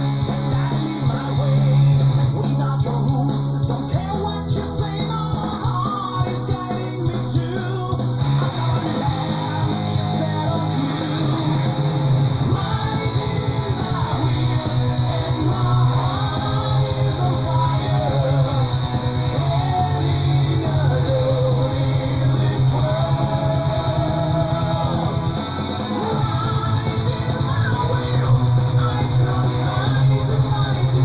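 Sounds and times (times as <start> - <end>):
bass: 0.0 - 31.0
distorted electric guitars: 0.0 - 31.0
drums with fast beat: 0.0 - 31.0.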